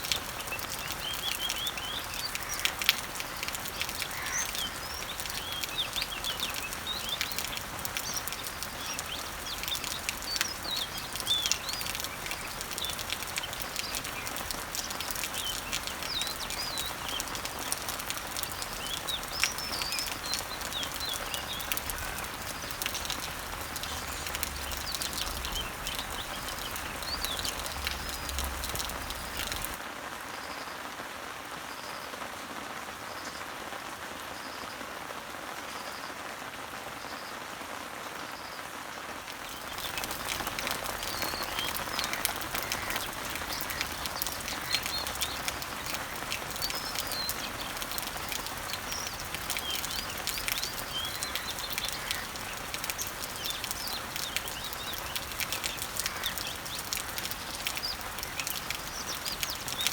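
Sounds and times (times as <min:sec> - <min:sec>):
birds chirping: 0:00.0 - 0:29.8, 0:39.3 - 0:59.9
rain pattering on leaves: 0:00.0 - 0:59.9.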